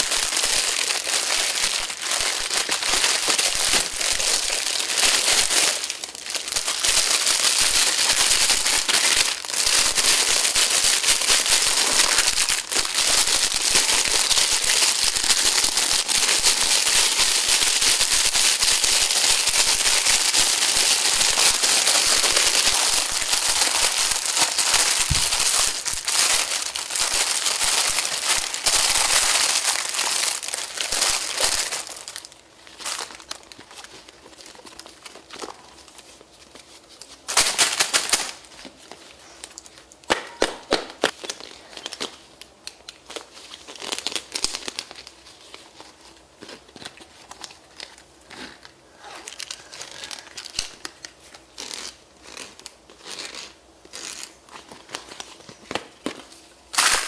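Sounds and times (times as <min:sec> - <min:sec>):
plastic packaging crinkling: 0:00.0 - 0:57.0.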